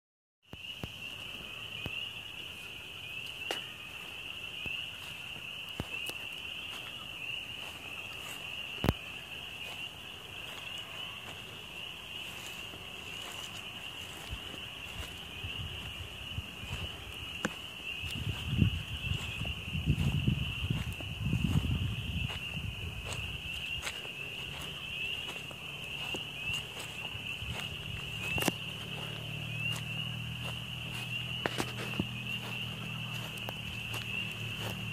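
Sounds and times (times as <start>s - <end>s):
chorus of peeping frogs: 0.4s - 34.9s.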